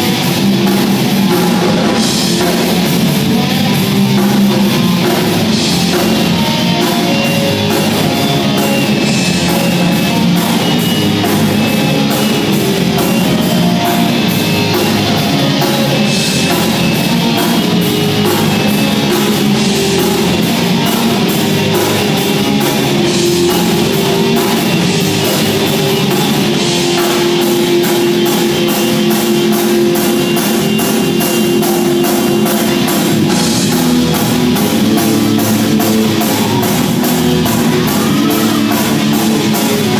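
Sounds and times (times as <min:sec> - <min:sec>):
bass guitar: 0:00.0 - 0:39.9
drum kit: 0:00.0 - 0:39.9
electric guitars: 0:00.0 - 0:39.9
keyboard: 0:00.0 - 0:39.9.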